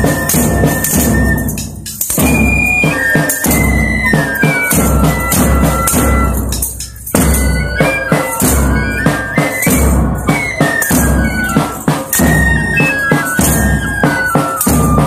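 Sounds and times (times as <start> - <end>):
drums beating: 0.0 - 15.0
recorders playing melody: 0.0 - 15.0
tambourines: 0.0 - 15.0.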